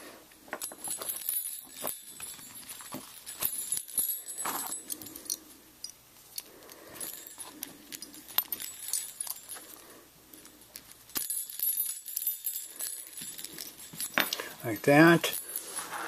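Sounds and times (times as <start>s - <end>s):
small bells jingling: 0.5s - 16.0s.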